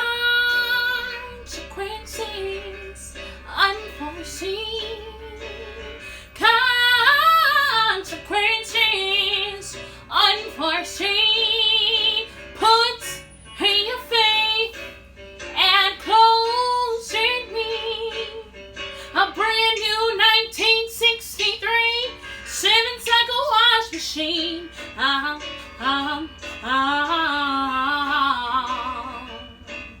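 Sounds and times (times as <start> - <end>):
woman singing with vibrato: 0.0 - 14.9, 15.6 - 18.5, 19.1 - 29.6.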